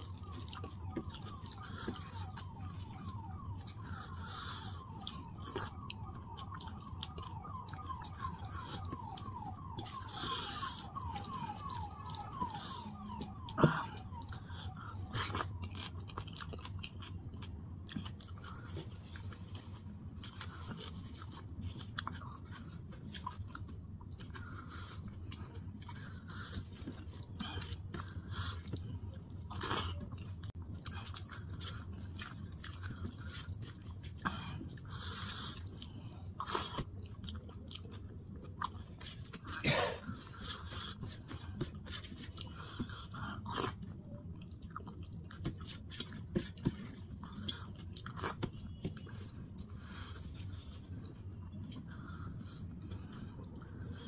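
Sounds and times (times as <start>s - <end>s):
wet chewing and mouth sounds: 0.0s - 54.0s.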